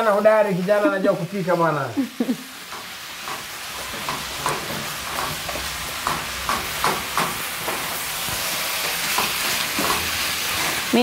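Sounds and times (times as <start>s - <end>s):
meat and peppers sizzling in pan: 0.0s - 11.0s.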